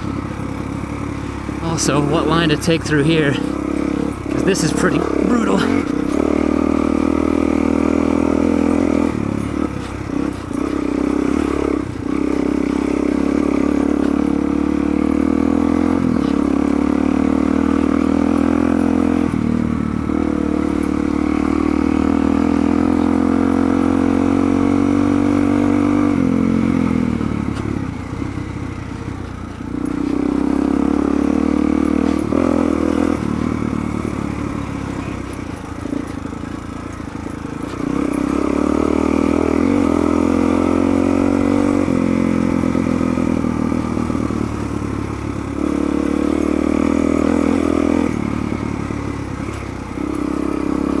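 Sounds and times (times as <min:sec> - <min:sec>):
motorcycle engine under throttle: 0:00.0 - 0:51.0.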